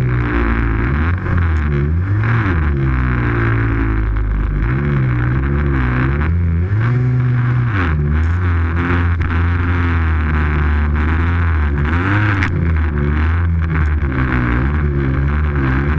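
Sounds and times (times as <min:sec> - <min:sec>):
snowmobile engine revving: 0:00.0 - 0:15.9.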